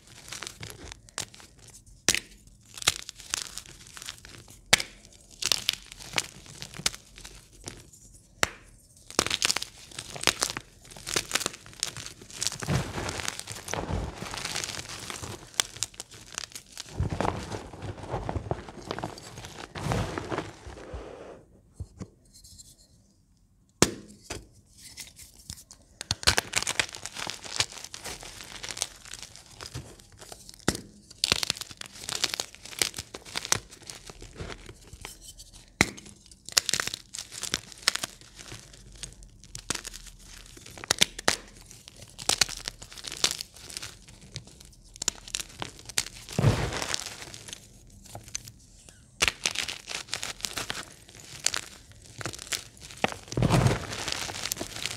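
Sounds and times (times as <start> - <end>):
hands crushing chalk chunks: 0.0 - 20.8, 25.4 - 54.9.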